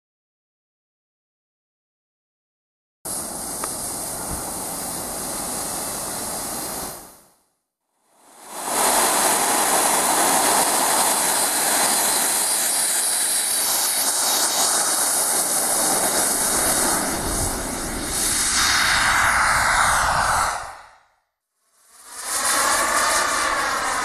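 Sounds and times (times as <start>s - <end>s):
jet turbine roaring with high whine: 3.1s - 7.3s, 8.0s - 21.0s, 21.7s - 24.0s.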